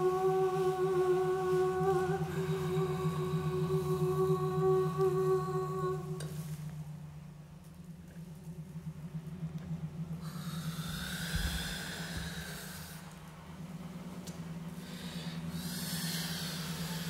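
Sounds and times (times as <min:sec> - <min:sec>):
breathy hissing swells: 0:00.0 - 0:17.0
low drone: 0:00.0 - 0:17.0.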